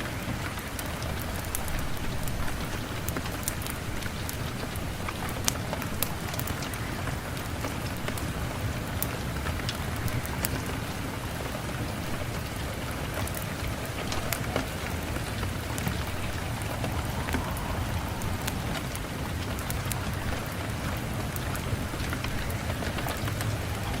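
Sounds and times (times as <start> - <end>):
constant low rumble: 0.0 - 24.0
steady rain with sharp ticks: 0.0 - 24.0.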